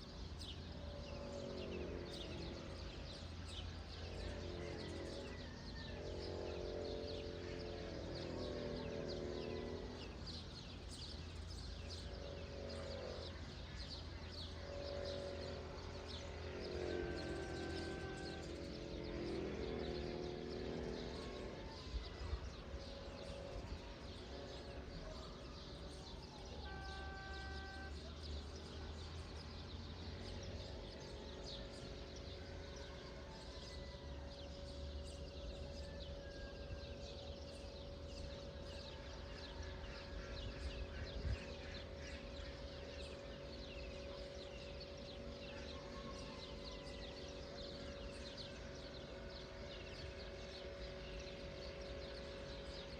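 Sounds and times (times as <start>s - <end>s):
small birds chirping: 0.0s - 52.9s
steady low hum: 0.0s - 52.9s.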